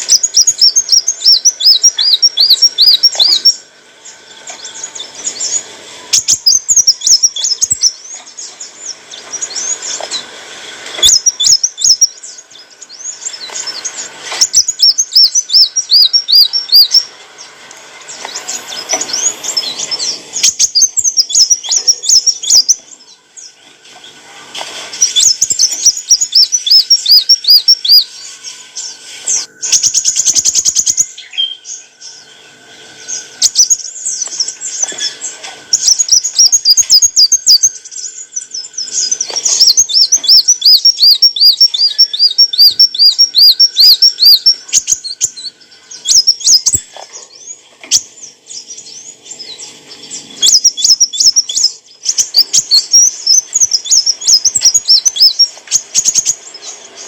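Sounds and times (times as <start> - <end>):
sunbird twittering: 0.0 - 24.2, 24.8 - 57.0.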